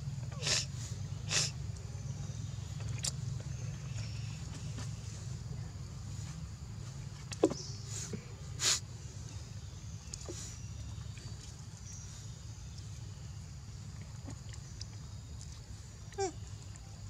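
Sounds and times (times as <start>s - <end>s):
faint insect hum: 0.0s - 17.0s.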